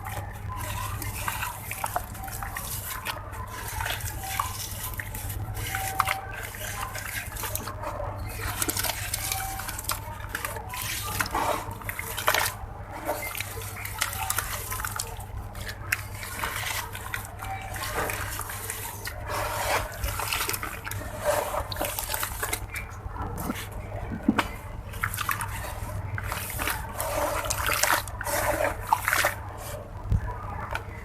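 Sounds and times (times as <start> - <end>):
blocks crumbling and crackling: 0.0 - 31.0
water sloshing: 0.0 - 31.0.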